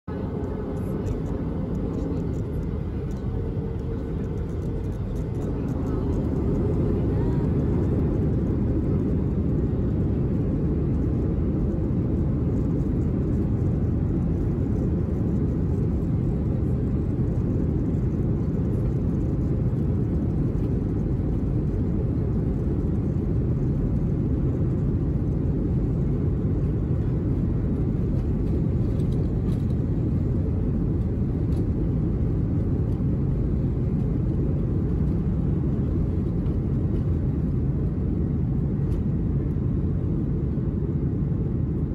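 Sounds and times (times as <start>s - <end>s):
aircraft cabin rumble: 0.0s - 41.9s.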